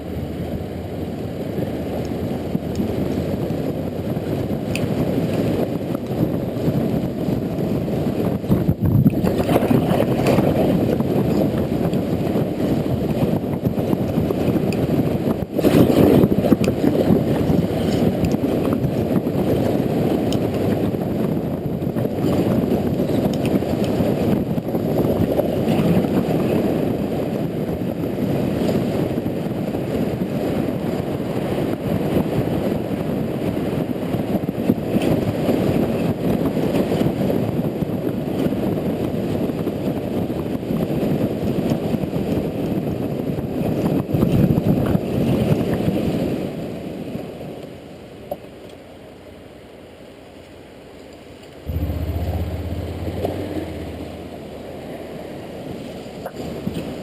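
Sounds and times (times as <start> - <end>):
wind buffeting camera: 0.0 - 47.7, 51.1 - 57.0
motorcycle engine and road noise: 0.0 - 57.0.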